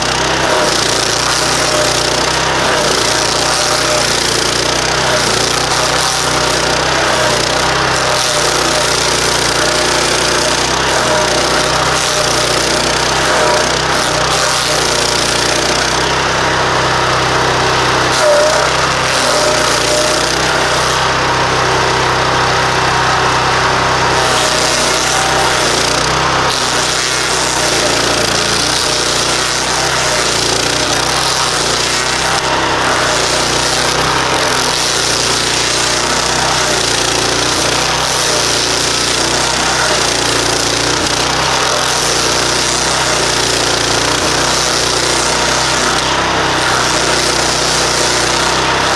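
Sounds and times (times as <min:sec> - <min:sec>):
cutting wheel grinding wood: 0:00.0 - 0:48.9
engine running under load: 0:00.0 - 0:48.9.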